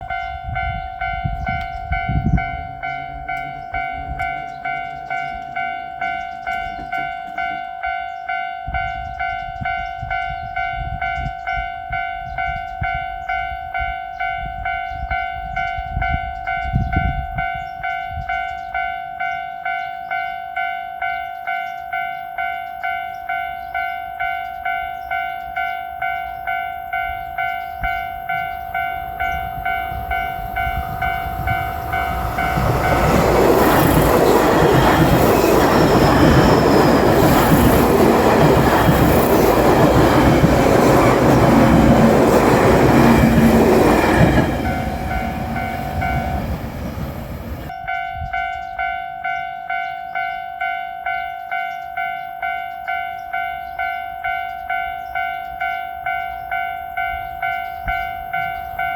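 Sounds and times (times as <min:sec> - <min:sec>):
level-crossing warning bell: 0:00.0 - 0:58.9.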